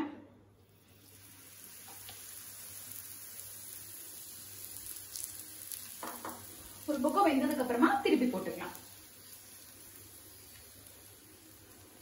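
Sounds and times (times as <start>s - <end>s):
oil sizzling on a hot pan: 0.6s - 12.0s.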